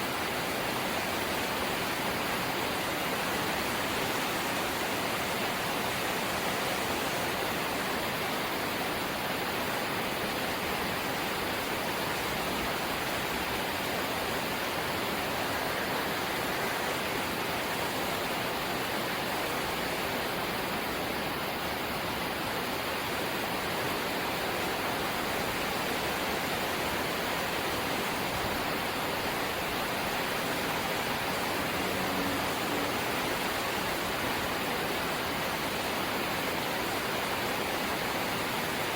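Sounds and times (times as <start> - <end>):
rain on a metal roof: 0.0 - 38.9.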